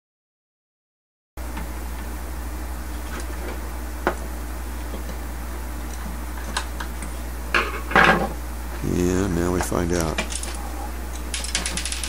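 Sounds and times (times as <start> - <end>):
steady low hum: 1.4 - 12.0.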